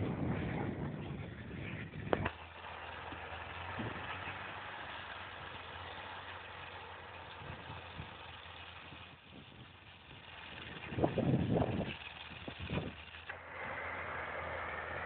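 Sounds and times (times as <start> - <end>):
distant jeep engine running: 0.0 - 15.0
steady hiss: 1.2 - 15.0.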